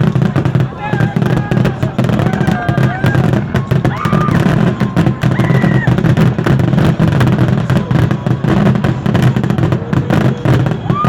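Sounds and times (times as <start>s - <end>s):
fireworks crackling and popping: 0.0s - 11.0s
people's voices: 0.0s - 11.0s.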